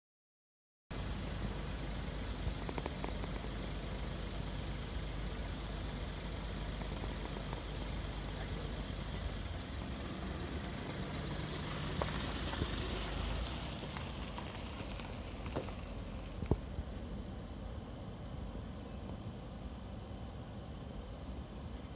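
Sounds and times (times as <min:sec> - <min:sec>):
distant rushing flood water: 0:01.0 - 0:21.9.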